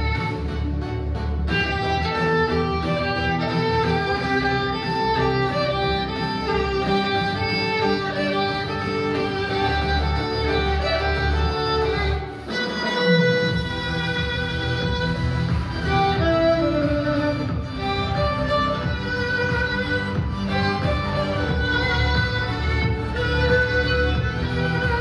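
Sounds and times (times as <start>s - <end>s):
deep bass line: 0.0s - 12.4s, 13.1s - 25.0s
violin melody: 0.0s - 25.0s.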